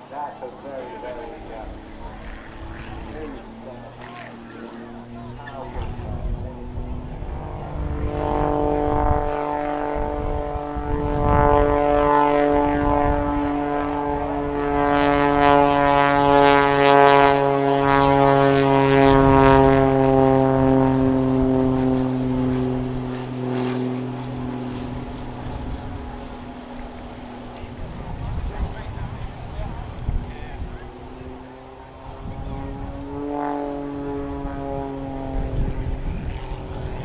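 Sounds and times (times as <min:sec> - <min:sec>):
biplane propeller engine droning: 0:00.0 - 0:37.0.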